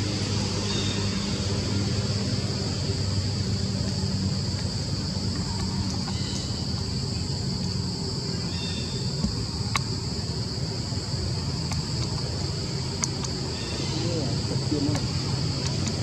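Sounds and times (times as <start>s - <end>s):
high-pitched insect buzz: 0.3s - 4.3s, 5.0s - 11.7s, 12.4s - 15.6s.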